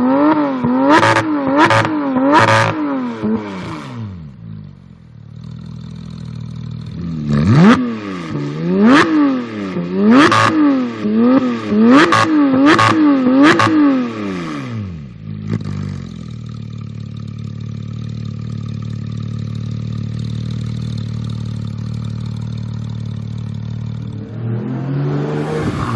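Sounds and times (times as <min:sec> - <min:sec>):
sports car engine idling and revving: 0:00.0 - 0:25.9.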